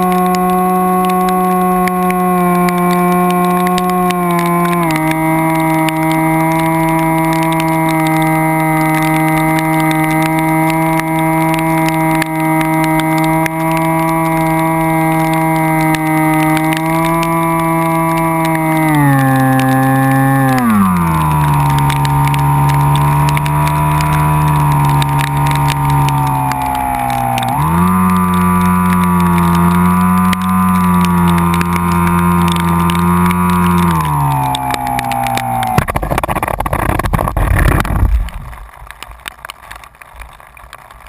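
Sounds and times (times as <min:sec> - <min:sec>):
vehicle engine running: 0:00.0 - 0:38.7.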